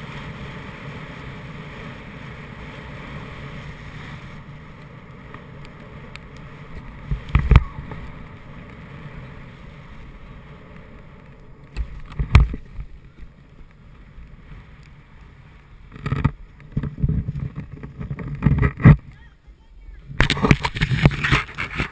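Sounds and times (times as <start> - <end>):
snowboard sliding over snow: 0.0 - 21.9.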